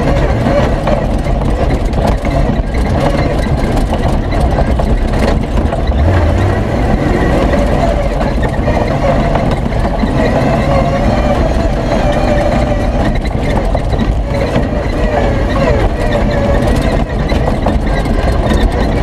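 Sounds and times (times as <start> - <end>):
engine running hard under load: 0.0 - 19.0
rattles: 0.0 - 19.0.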